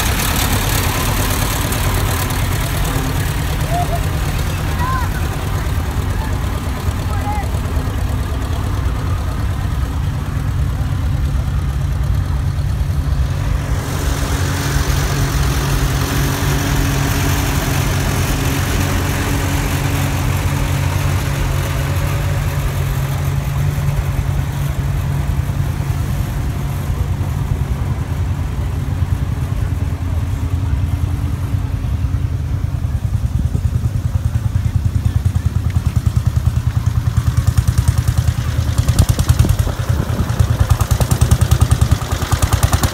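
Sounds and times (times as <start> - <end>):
pulsing engine beat: 0.0 - 42.9
tractor engines running: 0.0 - 42.9.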